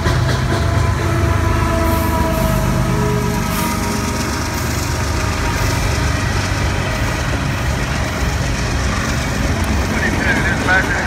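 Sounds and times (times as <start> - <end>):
diesel locomotive engine rumble: 0.0 - 11.0
freight cars rolling on rails: 0.0 - 11.0.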